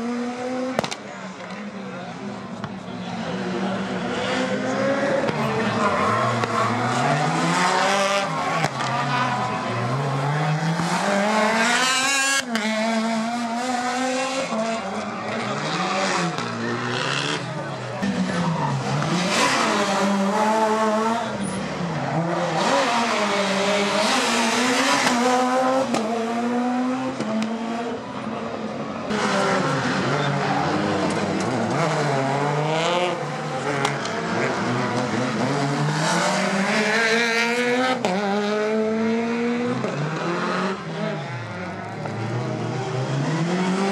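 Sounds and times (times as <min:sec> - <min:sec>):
rally car engine revving high: 0:03.2 - 0:28.2, 0:29.1 - 0:43.9.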